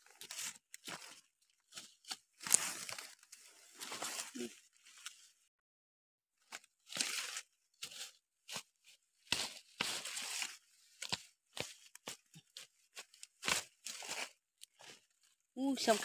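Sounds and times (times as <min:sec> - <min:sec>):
stick scraping dry soil and leaves: 0:00.0 - 0:05.4, 0:06.4 - 0:16.0.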